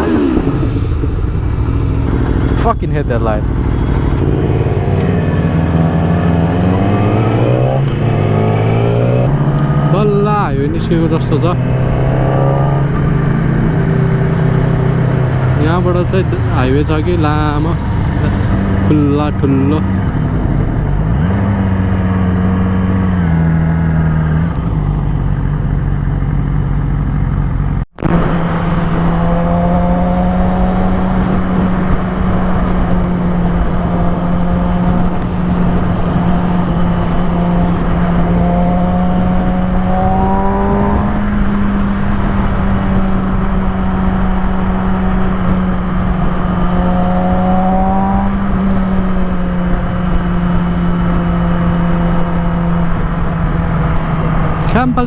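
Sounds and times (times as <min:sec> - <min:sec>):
wind rushing over microphone: 0:00.0 - 0:24.8, 0:28.0 - 0:55.0
motorcycle engine running: 0:00.0 - 0:55.0.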